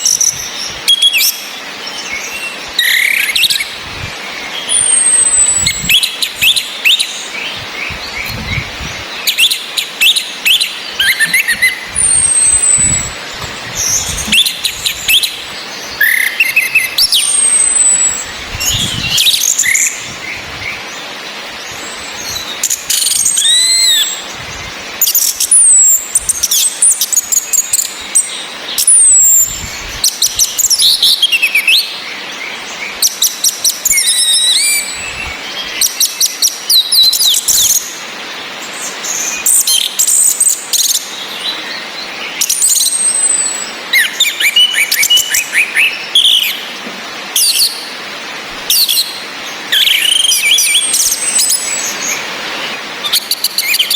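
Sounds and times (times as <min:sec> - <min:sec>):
rain hiss: 0:00.0 - 0:53.9
thrushes calling and singing: 0:00.0 - 0:53.9.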